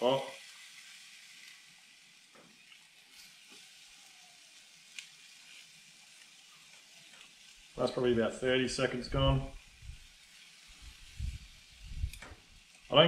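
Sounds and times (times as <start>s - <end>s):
steak sizzling on grill: 0.0s - 13.0s.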